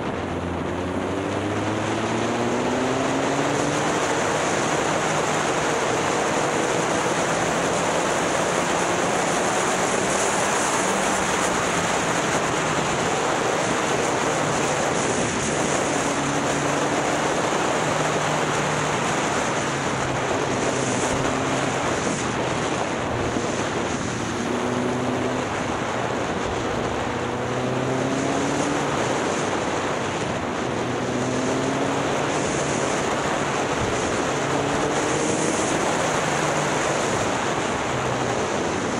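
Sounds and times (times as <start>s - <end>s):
motorcycle engine accelerating: 0.0s - 38.9s
wind noise on microphone: 0.0s - 38.9s.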